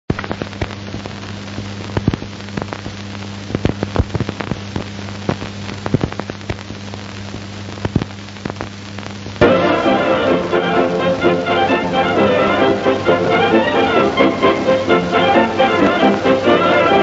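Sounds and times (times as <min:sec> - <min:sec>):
film soundtrack crackles and pops: 0:00.1 - 0:17.0
low hum and hiss: 0:00.1 - 0:17.0.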